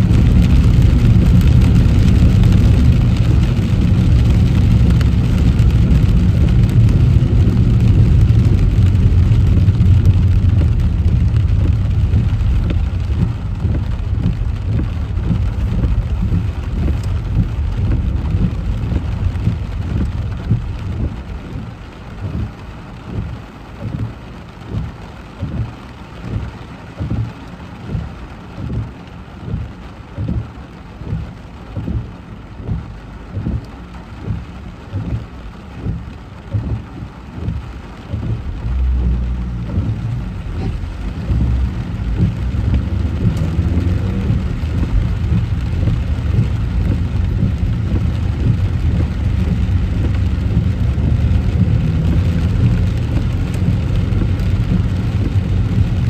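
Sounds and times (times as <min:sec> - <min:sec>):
rain hiss: 0:00.0 - 0:56.0
regular low thump: 0:00.0 - 0:56.0
road and tyre rumble: 0:00.0 - 0:56.0.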